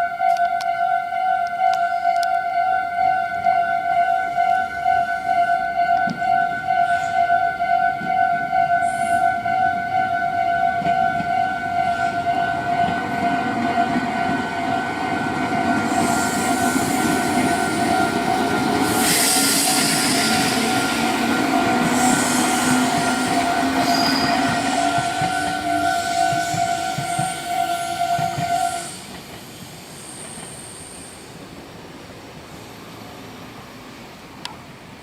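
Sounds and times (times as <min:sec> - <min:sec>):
level crossing warning bell: 0:00.0 - 0:28.8
train rumbling over rails: 0:01.6 - 0:35.0.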